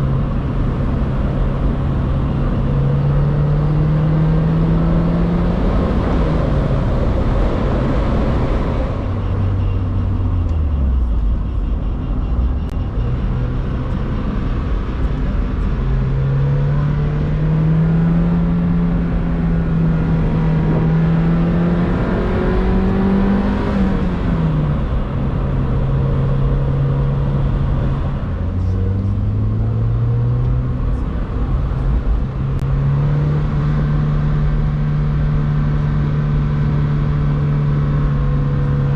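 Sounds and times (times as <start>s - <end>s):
car engine accelerating: 0.0s - 38.9s
road rumble: 0.0s - 38.9s.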